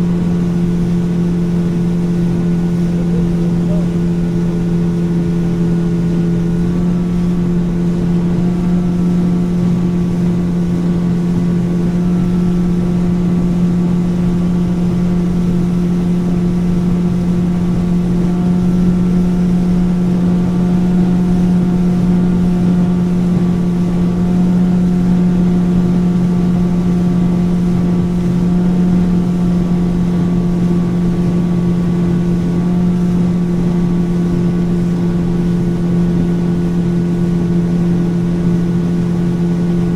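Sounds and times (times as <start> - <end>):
motorboat engine droning: 0.0 - 39.9.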